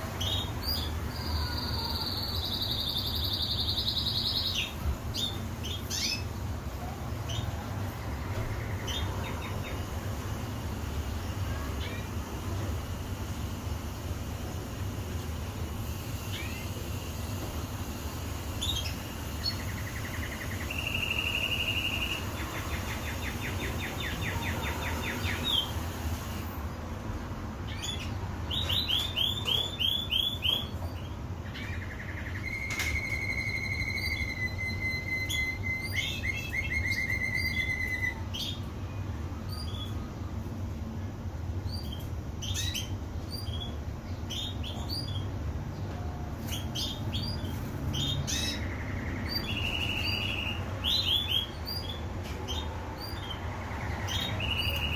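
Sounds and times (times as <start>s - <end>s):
canary singing trills: 0.0s - 14.3s, 15.5s - 26.5s, 27.6s - 40.7s, 41.5s - 54.9s.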